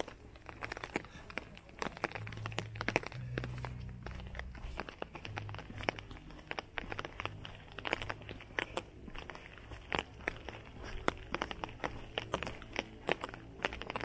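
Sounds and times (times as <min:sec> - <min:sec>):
footsteps on wet pavement: 0:00.0 - 0:14.0
low hum: 0:02.1 - 0:14.0.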